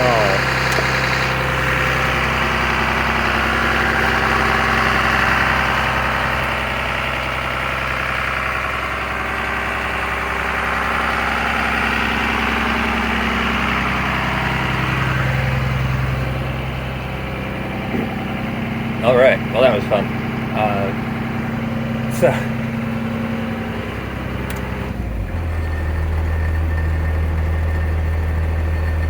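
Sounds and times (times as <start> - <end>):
bus engine idling: 0.0 - 29.0.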